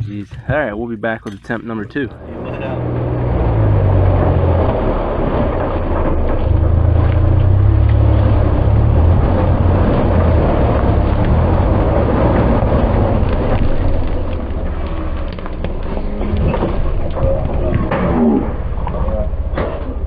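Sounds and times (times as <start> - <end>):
utility vehicle engine running: 1.8 - 20.0.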